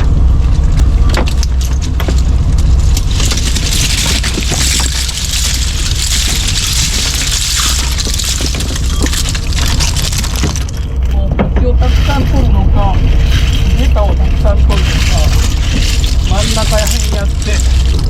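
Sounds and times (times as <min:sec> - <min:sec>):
boat engine humming: 0:00.0 - 0:18.0
gear clattering on deck: 0:00.6 - 0:12.4, 0:13.1 - 0:18.0.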